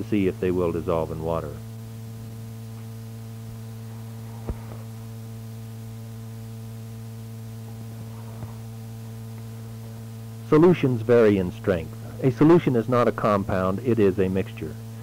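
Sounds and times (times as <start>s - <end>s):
mains hum: 0.0s - 15.0s
tape hiss: 0.0s - 15.0s.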